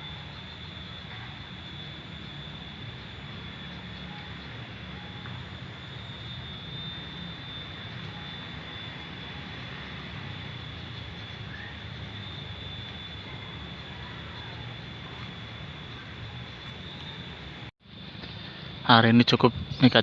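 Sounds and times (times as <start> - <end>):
thin high-pitched drone: 0.0 - 17.7.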